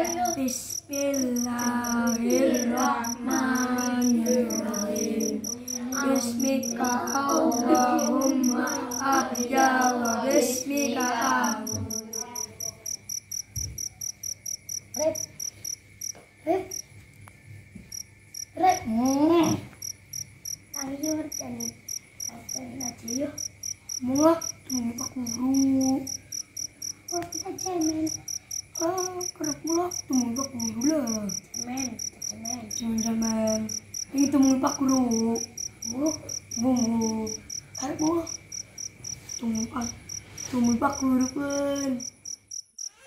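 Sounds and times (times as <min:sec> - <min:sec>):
children talking: 0:00.0 - 0:14.2, 0:14.9 - 0:15.8, 0:16.4 - 0:16.9, 0:17.9 - 0:42.2
crickets chirping: 0:00.0 - 0:43.0.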